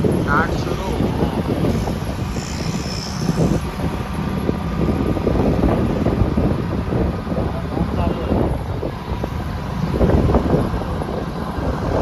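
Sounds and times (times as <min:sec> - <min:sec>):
motorcycle engine rumble: 0:00.0 - 0:12.0
road noise: 0:00.0 - 0:12.0
wind buffeting microphone: 0:00.0 - 0:12.0.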